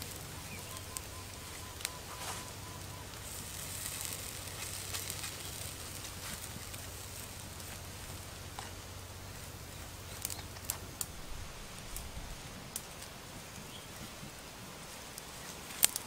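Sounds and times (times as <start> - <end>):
charcoal embers crackling: 0.0 - 16.0
meat sizzling: 0.0 - 16.0.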